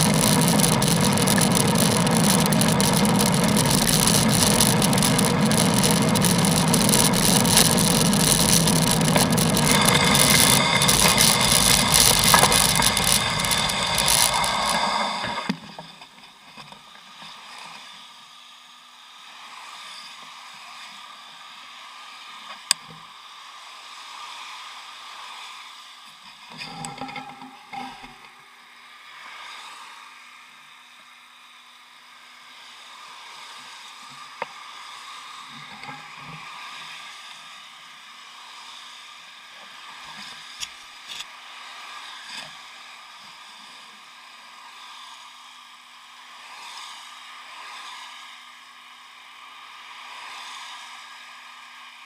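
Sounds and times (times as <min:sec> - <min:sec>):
bicycle tyres hissing on wet road: 0:00.0 - 0:15.4, 0:17.1 - 0:26.5, 0:28.5 - 0:35.5, 0:36.4 - 0:52.0.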